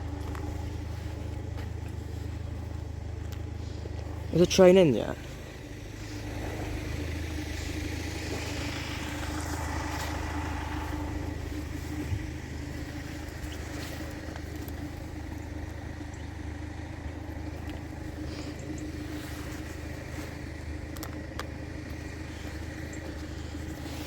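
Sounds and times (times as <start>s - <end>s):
traffic noise: 0.0s - 24.0s
vehicle engines idling: 0.0s - 24.0s.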